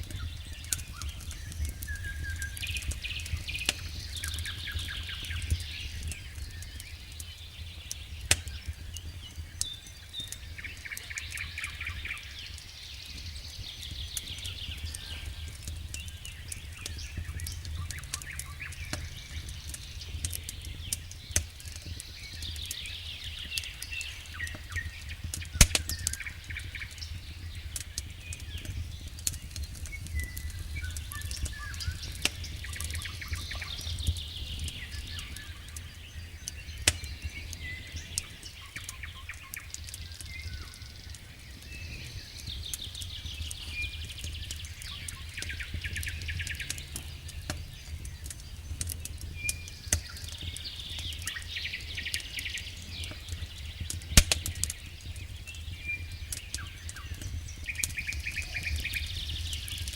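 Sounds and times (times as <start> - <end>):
fire flames rumbling: 0.0 - 59.9
logs crackling and popping: 0.0 - 59.9.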